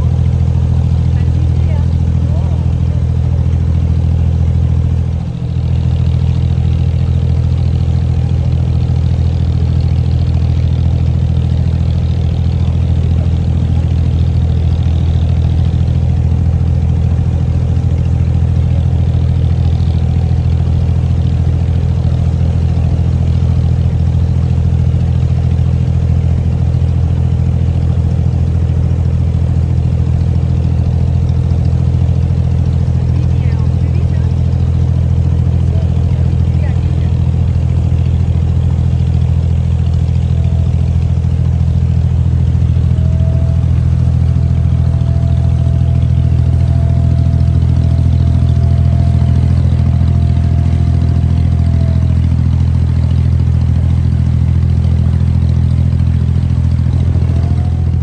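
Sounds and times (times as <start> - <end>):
boat diesel engine drone: 0.0 - 58.0.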